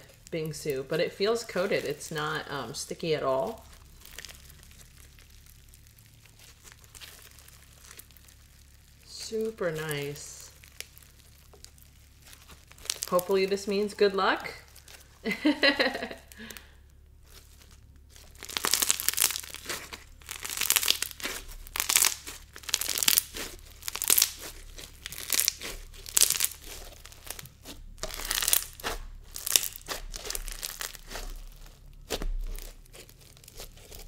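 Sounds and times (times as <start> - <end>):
slime crackling and crunching: 0.0 - 34.0.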